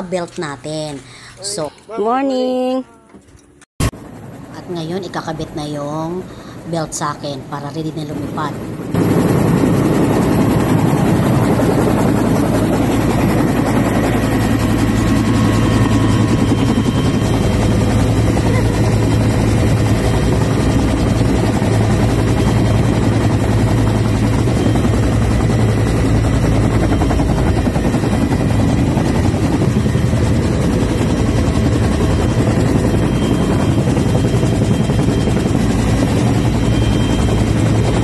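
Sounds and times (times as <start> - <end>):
helicopter engine and rotor drone: 3.1 - 38.0.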